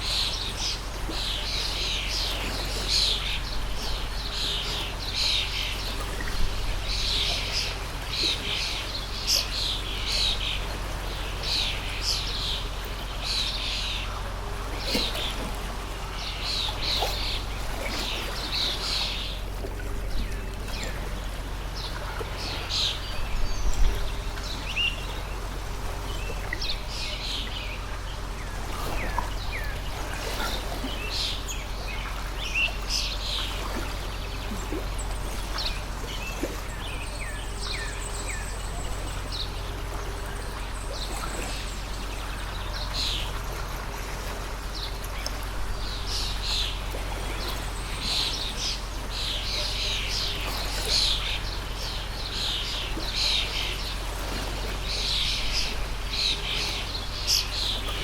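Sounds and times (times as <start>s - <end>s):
small birds chirping: 0.0s - 43.7s, 44.6s - 58.0s
stream of water flowing: 0.0s - 58.0s.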